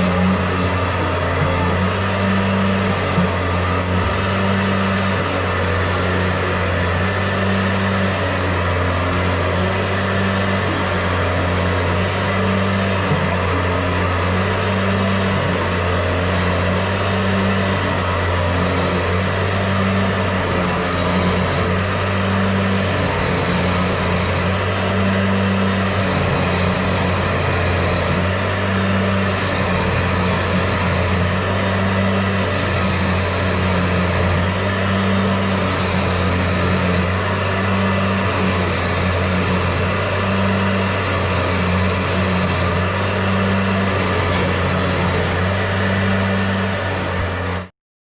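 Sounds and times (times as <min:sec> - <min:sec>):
machine motor running: 0:00.0 - 0:47.7.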